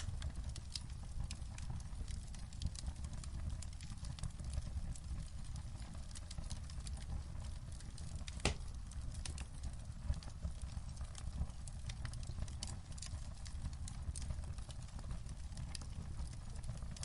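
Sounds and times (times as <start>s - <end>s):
sharp crack of fire: 0.0s - 17.0s
wood fire crackling: 0.0s - 17.0s.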